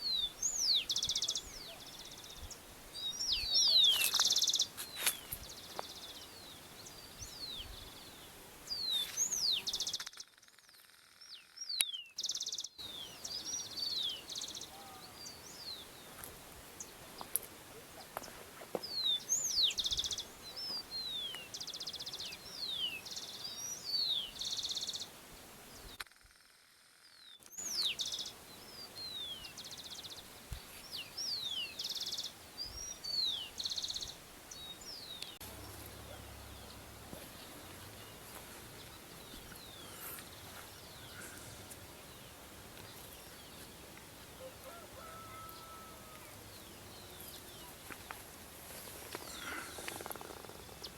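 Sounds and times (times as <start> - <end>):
steady background hiss: 0.0 - 10.0, 12.3 - 26.0, 26.8 - 50.9
songbird singing: 0.0 - 26.0, 27.1 - 50.9.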